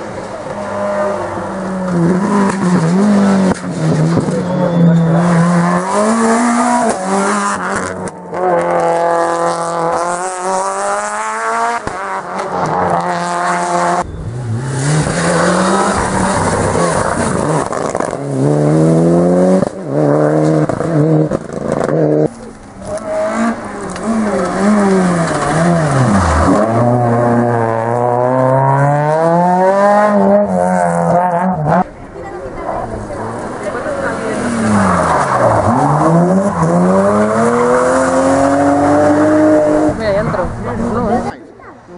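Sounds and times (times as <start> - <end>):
rally car engines revving hard: 0.0 - 41.4.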